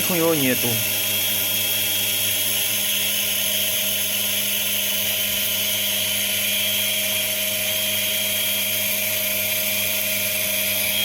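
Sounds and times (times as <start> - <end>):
treadmill motor whine: 0.0 - 11.0.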